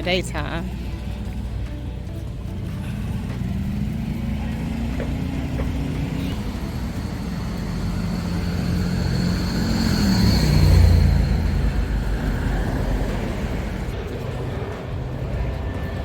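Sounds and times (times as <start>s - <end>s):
vehicle engine humming: 0.0s - 16.0s
high whine: 2.8s - 16.0s.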